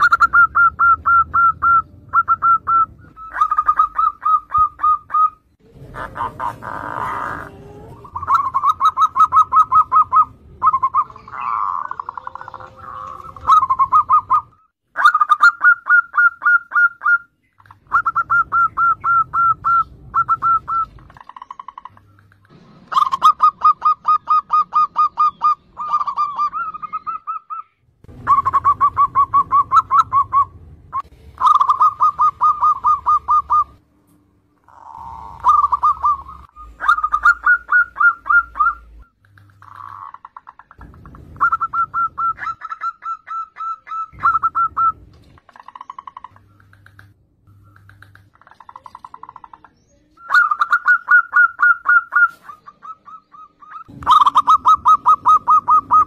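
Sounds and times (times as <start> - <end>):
doves cooing: 0.0 - 33.8, 34.6 - 56.0.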